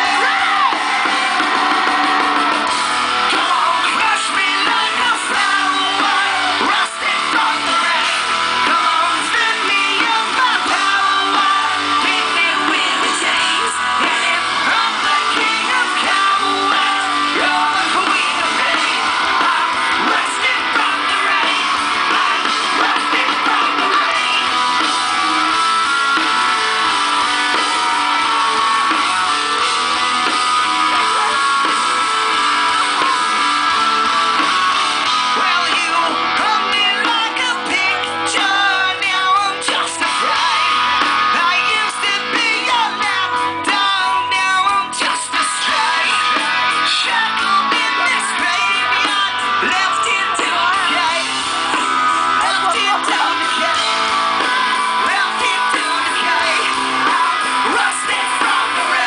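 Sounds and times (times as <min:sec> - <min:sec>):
song with guitar and singing: 0:00.0 - 0:59.0.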